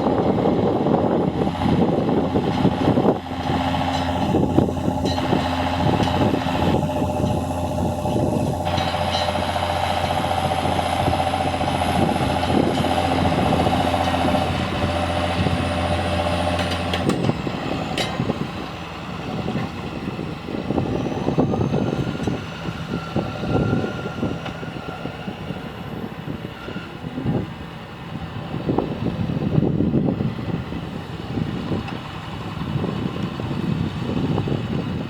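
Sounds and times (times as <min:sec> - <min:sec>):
tractor engine droning: 0:00.0 - 0:35.0
uneven fluctuating rumble: 0:00.0 - 0:35.0.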